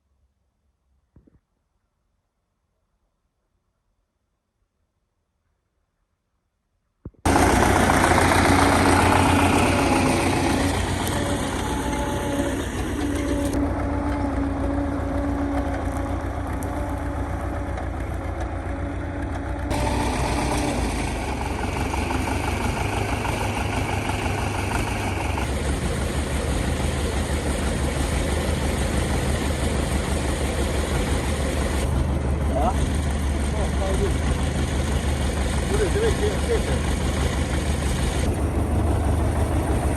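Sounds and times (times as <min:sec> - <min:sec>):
engine deep low rumble: 0:07.3 - 0:39.9.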